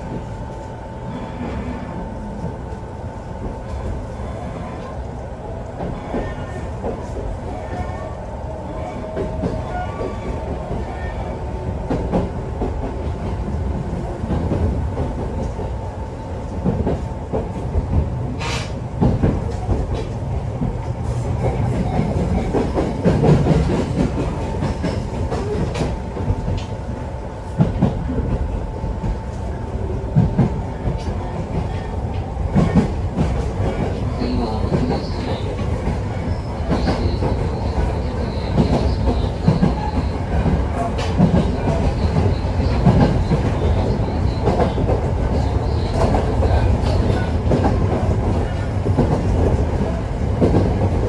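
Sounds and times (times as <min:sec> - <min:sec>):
train wheels rumbling on rail: 0:00.0 - 0:51.0
clickety-clack over rail joints: 0:05.7 - 0:08.0, 0:08.8 - 0:51.0.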